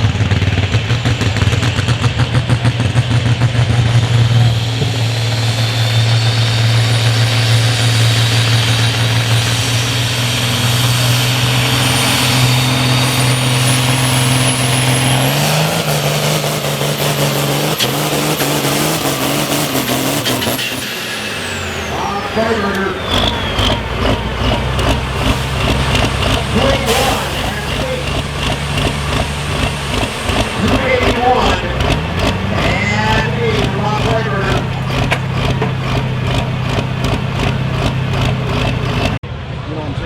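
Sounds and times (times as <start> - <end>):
tractor engine under full load: 0.0 - 39.5.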